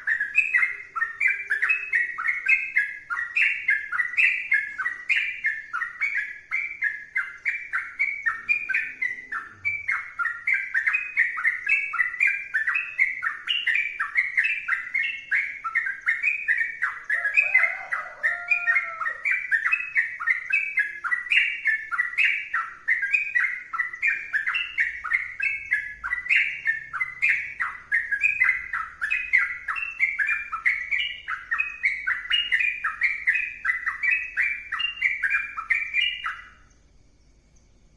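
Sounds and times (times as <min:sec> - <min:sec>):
low bird warble: 0:00.0 - 0:37.9.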